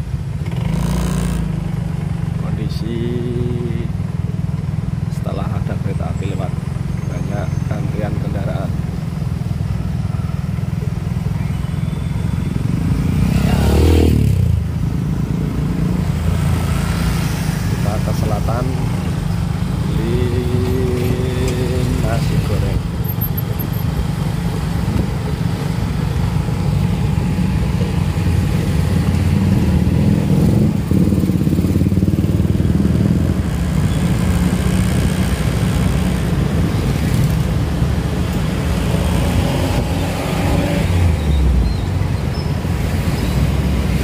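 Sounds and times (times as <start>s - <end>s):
passing motorbikes and cars: 0.0s - 44.0s
motorcycle engine rumble: 1.5s - 44.0s.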